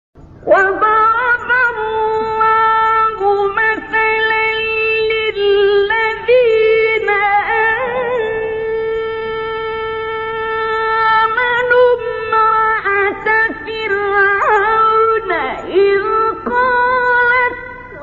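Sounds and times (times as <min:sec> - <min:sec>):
man chanting melodic recitation: 0:00.3 - 0:18.0.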